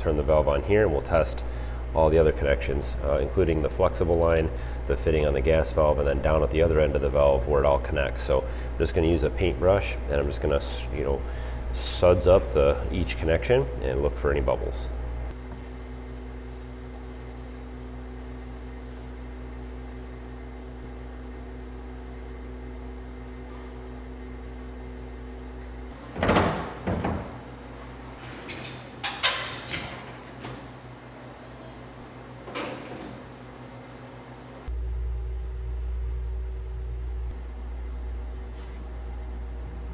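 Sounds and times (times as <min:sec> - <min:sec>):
steady low hum: 0:00.0 - 0:28.2, 0:30.2 - 0:39.9.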